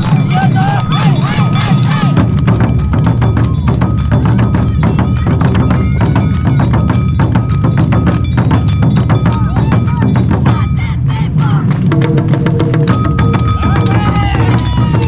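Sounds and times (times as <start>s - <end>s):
taiko drums beaten fast: 0.0s - 15.0s.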